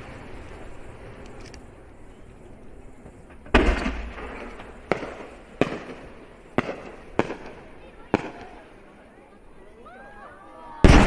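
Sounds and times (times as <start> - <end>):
firework shells bursting: 0.0 - 9.3.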